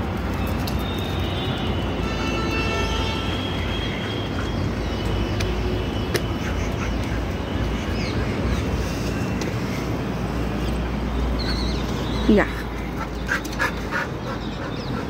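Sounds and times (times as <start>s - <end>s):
constant rushing noise: 0.0s - 15.0s.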